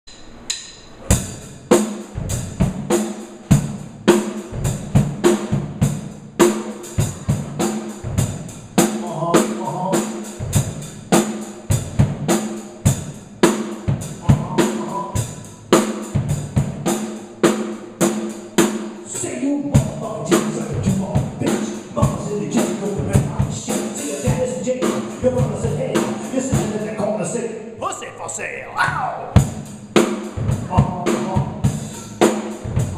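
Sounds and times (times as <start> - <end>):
hip hop drum beat: 0.2 - 27.1, 27.8 - 32.9.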